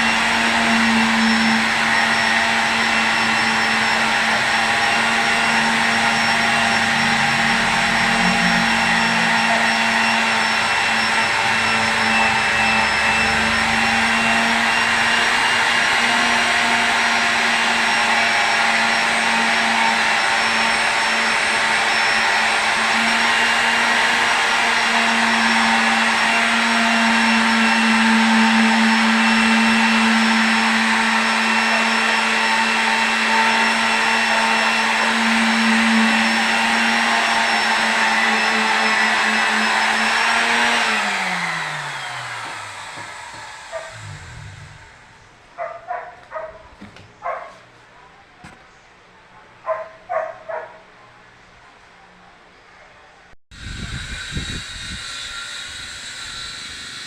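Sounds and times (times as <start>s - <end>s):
small electric motor whining: 0.0s - 46.5s, 53.6s - 57.0s.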